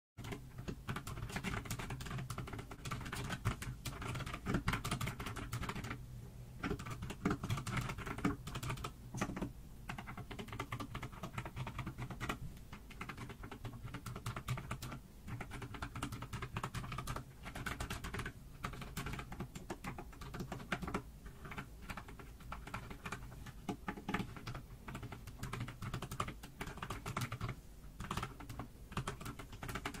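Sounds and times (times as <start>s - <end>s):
rapid tapping clicks: 0.2s - 6.0s, 6.6s - 30.0s
low steady hum: 0.2s - 30.0s.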